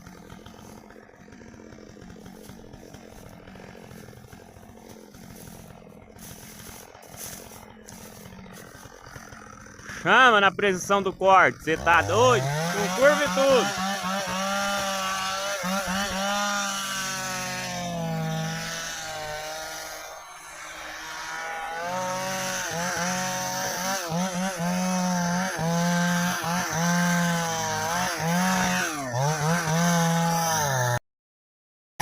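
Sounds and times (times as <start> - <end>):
chainsaw cutting hardwood: 0.0 - 31.0.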